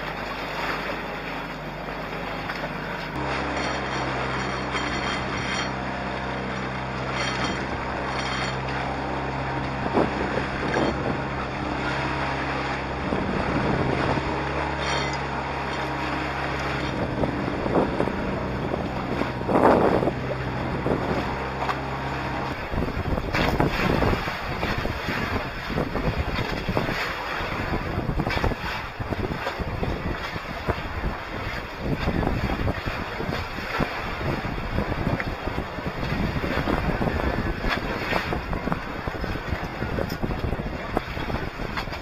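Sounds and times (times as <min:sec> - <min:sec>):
steady low hum: 0:00.0 - 0:42.0
water splashing against hulls: 0:00.0 - 0:42.0
wave slaps: 0:00.0 - 0:42.0
wind buffeting microphone: 0:03.1 - 0:42.0.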